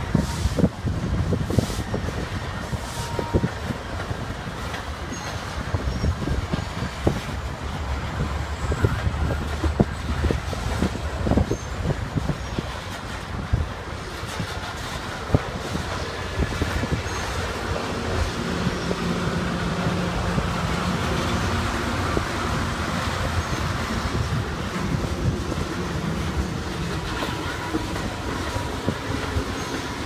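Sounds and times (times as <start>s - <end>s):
train cars clanking: 0.0s - 30.0s
train wheels rumbling on rail: 0.0s - 30.0s.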